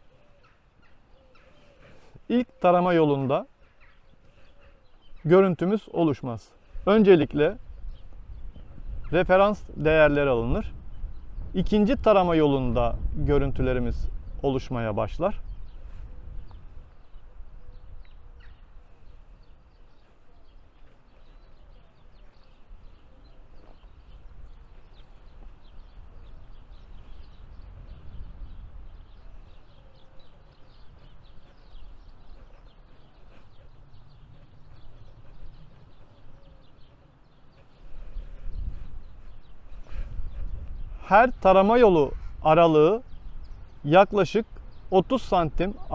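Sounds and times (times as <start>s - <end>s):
birds chirping and singing: 0.0s - 45.9s
wind rumble on microphone: 6.7s - 45.9s.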